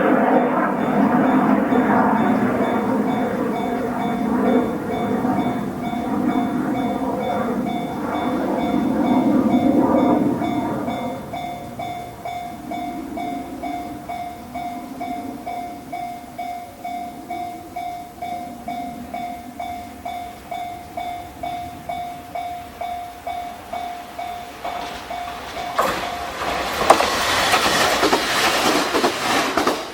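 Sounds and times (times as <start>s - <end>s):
level crossing warning bell dinging: 0.0s - 28.1s
electric train running: 0.0s - 29.9s
rail rumble: 0.0s - 29.9s.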